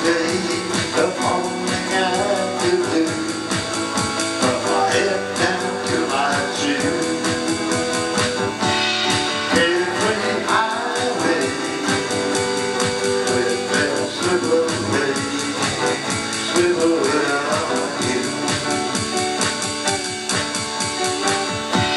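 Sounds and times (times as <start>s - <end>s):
electric drum kit beat: 0.0s - 21.9s
guitar strumming: 0.0s - 21.9s.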